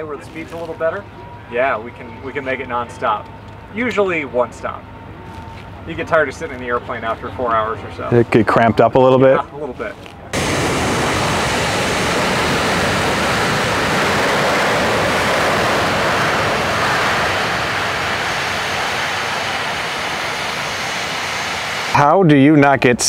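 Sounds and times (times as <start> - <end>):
airplane engine rushing: 0.0 - 23.0.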